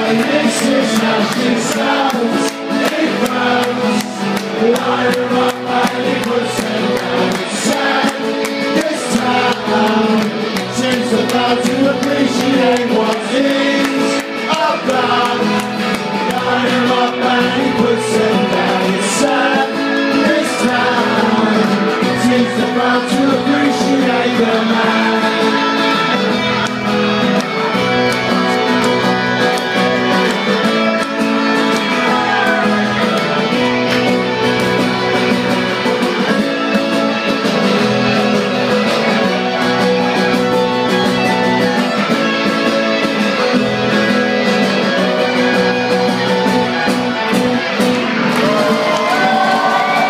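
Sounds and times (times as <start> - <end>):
electric guitars: 0.0 - 50.0
live rock band playing: 0.0 - 50.0.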